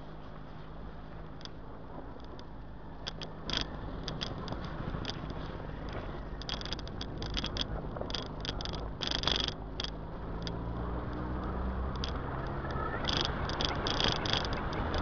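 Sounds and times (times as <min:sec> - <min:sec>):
car engine running low: 0:00.0 - 0:15.0
road noise: 0:00.0 - 0:15.0
short clicks and rattles: 0:02.2 - 0:11.2, 0:11.9 - 0:15.0.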